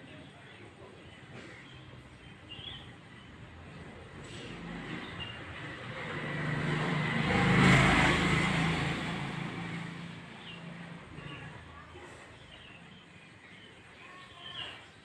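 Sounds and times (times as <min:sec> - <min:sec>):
motor vehicle passing by: 0:01.4 - 0:13.6.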